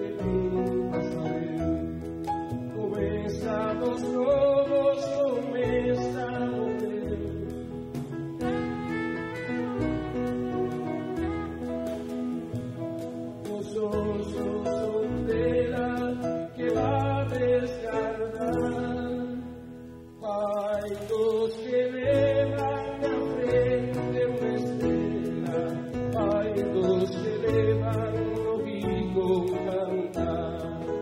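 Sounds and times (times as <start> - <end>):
acoustic guitar: 0.0 - 31.0
man singing a slow ballad: 0.0 - 31.0.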